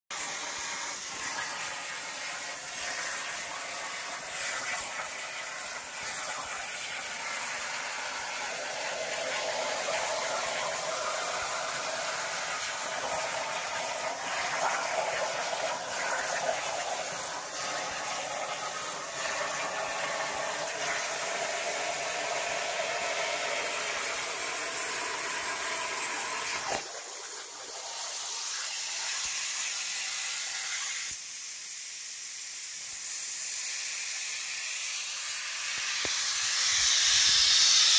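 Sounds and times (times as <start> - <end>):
plasma torch cutting hiss: 0.1 - 37.9.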